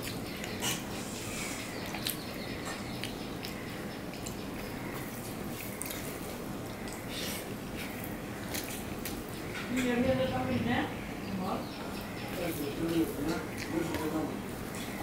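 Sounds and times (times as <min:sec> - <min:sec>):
chewing: 0:00.0 - 0:09.8, 0:12.4 - 0:15.0.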